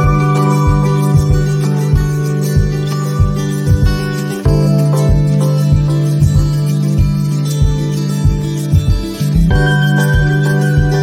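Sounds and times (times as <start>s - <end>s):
music with steady beat and guitar: 0.0s - 11.0s.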